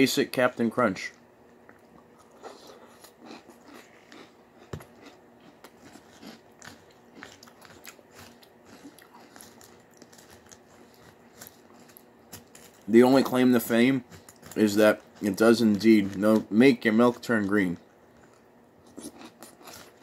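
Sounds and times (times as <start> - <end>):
chewing crunchy cereal: 0.5 - 20.0.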